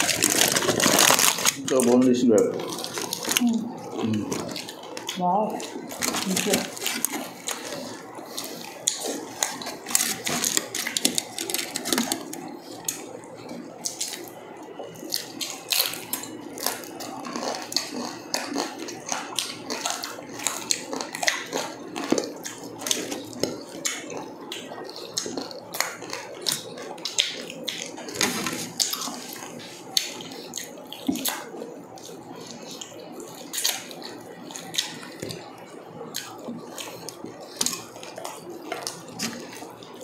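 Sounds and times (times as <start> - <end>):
chewing: 0.0 - 40.0
crunches and clicks of eating: 0.0 - 40.0.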